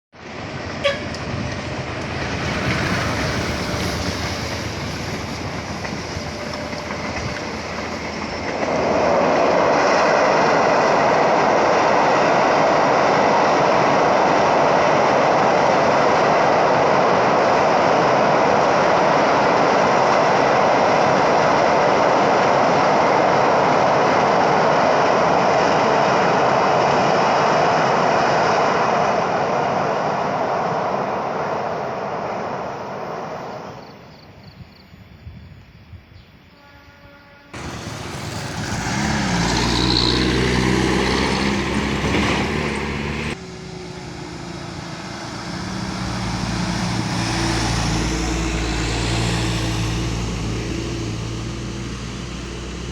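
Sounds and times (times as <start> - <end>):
train rumbling on rails: 0.2 - 52.9.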